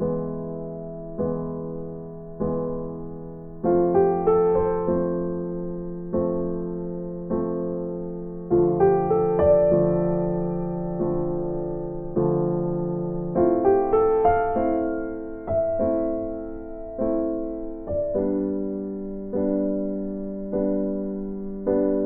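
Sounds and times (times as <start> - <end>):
gentle electric piano chords: 0.0 - 22.0.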